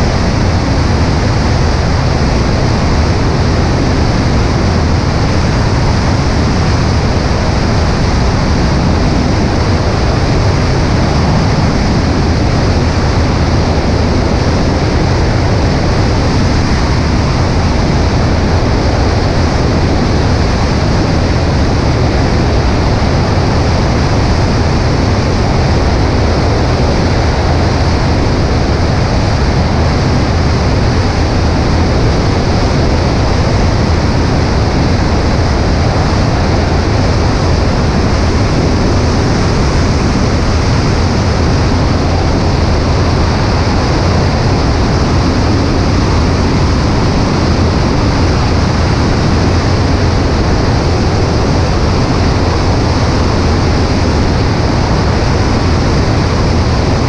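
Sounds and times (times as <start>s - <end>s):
plane engine and propeller drone: 0.0s - 57.0s
wind rushing over microphone: 0.0s - 57.0s.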